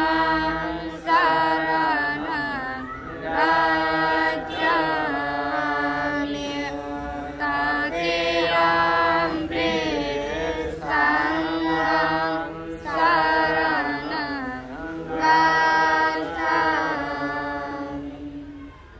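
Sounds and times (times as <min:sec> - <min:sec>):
person chanting melodic phrases: 0:00.0 - 0:18.7.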